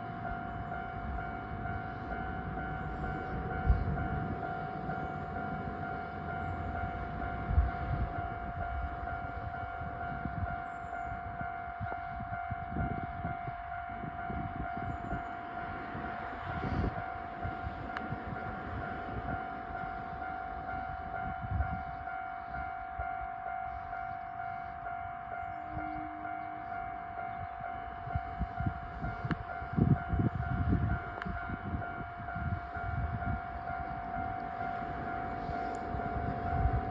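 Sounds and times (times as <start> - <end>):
level crossing warning bell: 0.0 - 36.9
train rumbling and clattering: 0.0 - 36.9.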